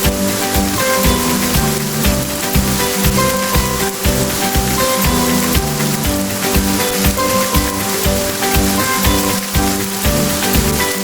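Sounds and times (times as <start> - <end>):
music with low thumping beat: 0.0 - 11.0
rain falling: 0.0 - 11.0.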